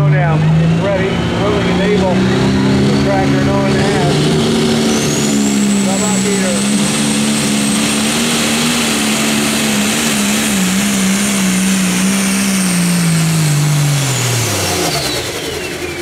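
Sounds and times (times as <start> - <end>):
diesel tractor engine at full power: 0.0 - 16.0.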